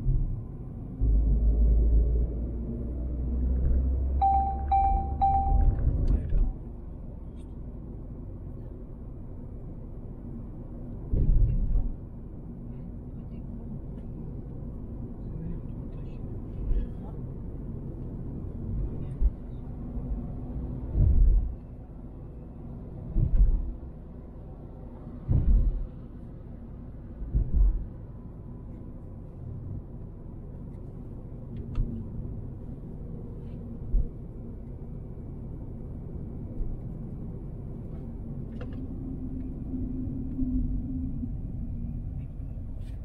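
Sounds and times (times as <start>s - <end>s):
car driving rumble: 0.0s - 43.0s.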